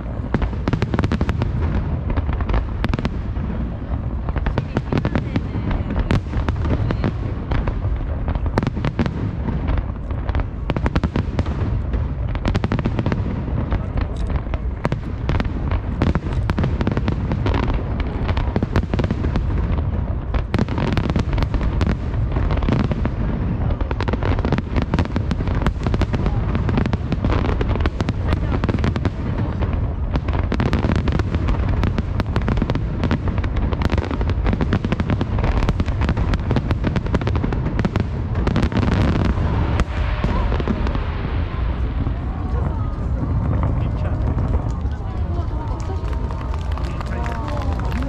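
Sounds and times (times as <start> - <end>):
fireworks bursting: 0.0 - 48.0
fireworks crackling: 0.0 - 48.0.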